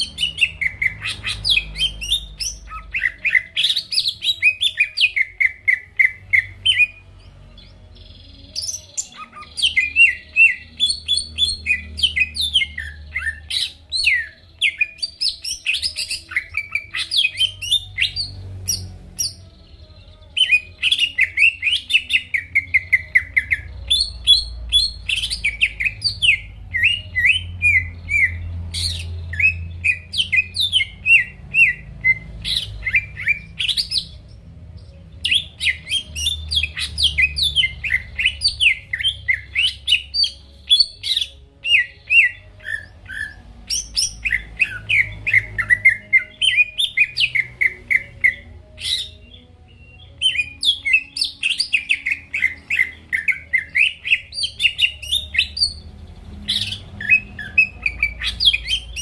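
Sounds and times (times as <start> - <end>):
bird chirping and trilling: 0.0 - 59.0.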